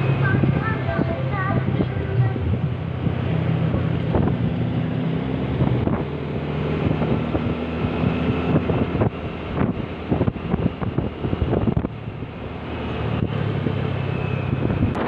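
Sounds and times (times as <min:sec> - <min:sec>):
vehicle engine running: 0:00.0 - 0:15.0
wind buffeting microphone: 0:00.0 - 0:15.0.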